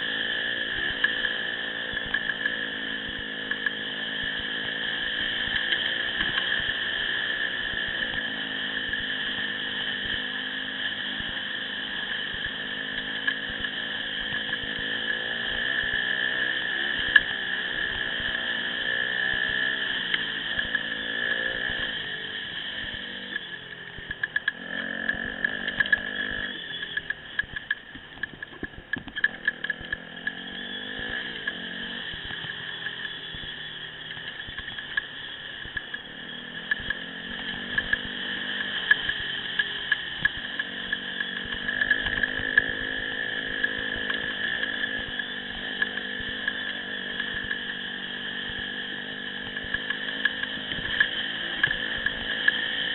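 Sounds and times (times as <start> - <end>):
dirt bike engine revving: 0.0 - 27.6, 28.3 - 52.9
high-pitched whine: 0.0 - 52.9.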